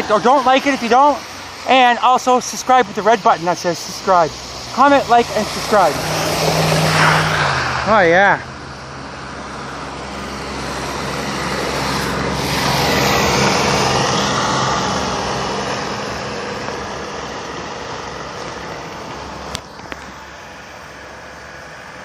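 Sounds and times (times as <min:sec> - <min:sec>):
car driving past: 0:00.0 - 0:22.0.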